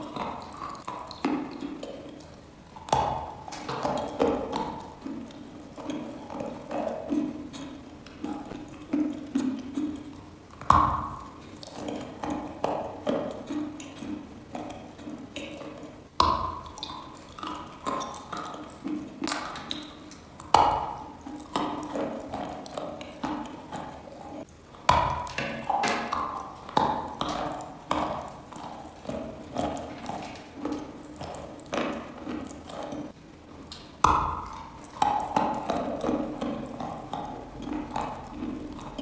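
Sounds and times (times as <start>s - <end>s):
chalk being chewed: 0.0s - 39.0s.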